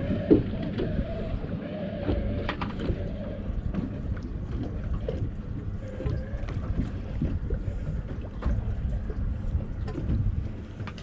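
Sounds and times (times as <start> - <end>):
water sloshing around boat: 0.0 - 11.0
wind rumbling on microphone: 0.0 - 11.0.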